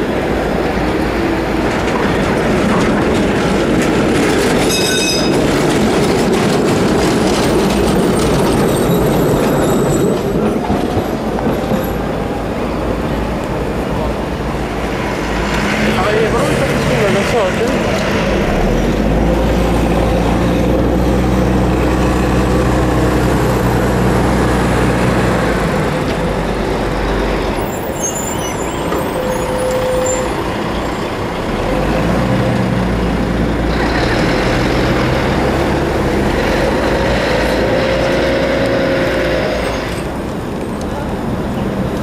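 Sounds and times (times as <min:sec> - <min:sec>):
bus engine rumble: 0:00.0 - 0:42.0.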